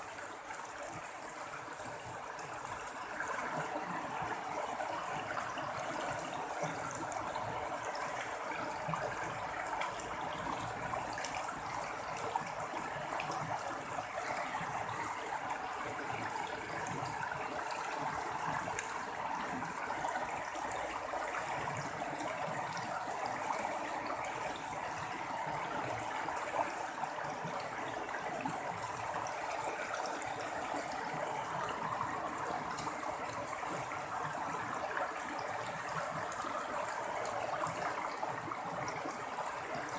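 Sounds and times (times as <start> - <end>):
running water babbling: 0.0 - 39.9.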